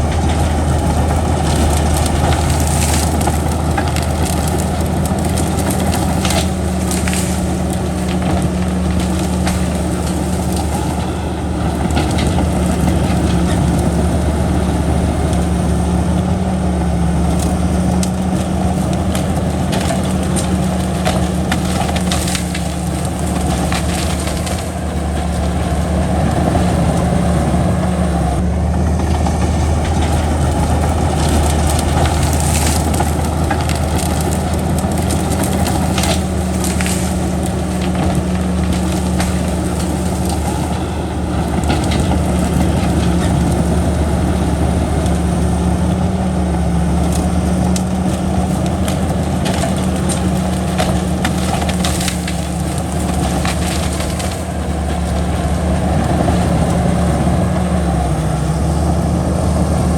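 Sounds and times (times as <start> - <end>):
bulldozer diesel engine running: 0.0 - 59.9
stones and soil crunching: 0.0 - 59.9.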